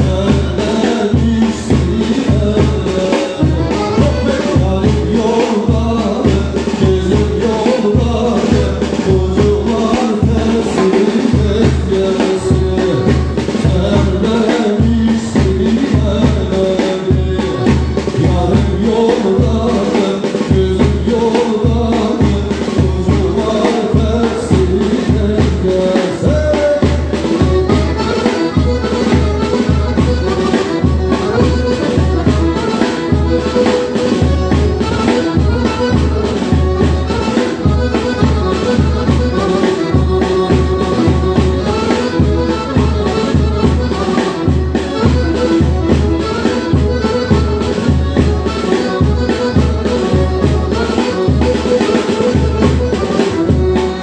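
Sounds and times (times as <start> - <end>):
drum kit steady beat: 0.0 - 54.0
live band playing dance music: 0.0 - 54.0.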